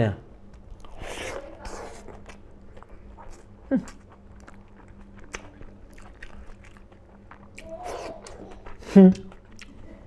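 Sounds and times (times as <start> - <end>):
person chewing food: 0.4 - 10.0.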